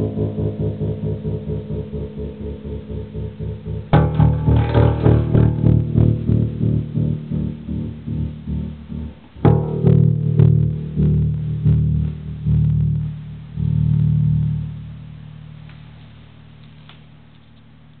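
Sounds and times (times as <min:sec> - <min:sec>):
pulsing electric bass notes: 0:00.0 - 0:18.0.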